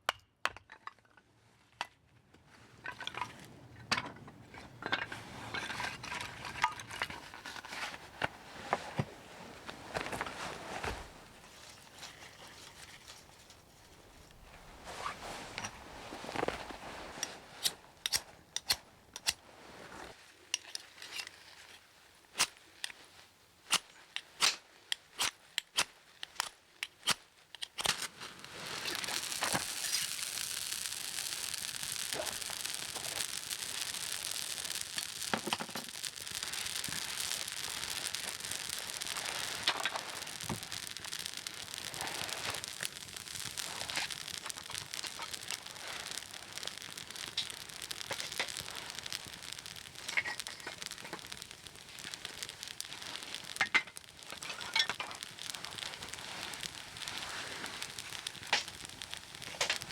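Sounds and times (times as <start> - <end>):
steady fire hiss: 3.1 - 59.9
campfire snapping and crackling: 4.5 - 59.9.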